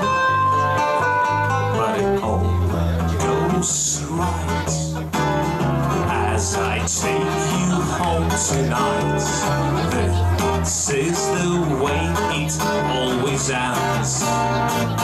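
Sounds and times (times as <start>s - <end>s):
acoustic guitar: 0.0s - 15.0s
electric guitar: 0.0s - 15.0s
keyboard: 0.0s - 15.0s.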